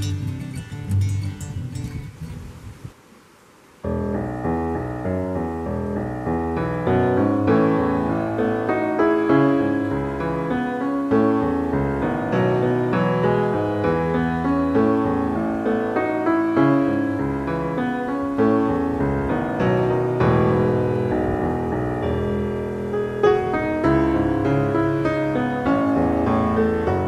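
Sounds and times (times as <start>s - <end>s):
piano music: 0.0s - 2.0s, 3.8s - 27.0s.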